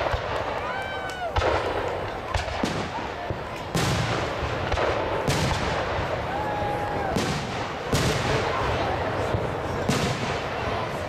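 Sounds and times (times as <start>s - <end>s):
fireworks booms with rumble: 0.0s - 11.0s.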